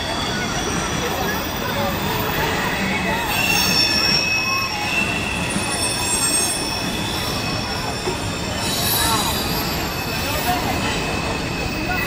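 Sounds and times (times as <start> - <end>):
rumble of passing rail cars: 0.0 - 12.0
train wheels squealing: 0.0 - 12.0.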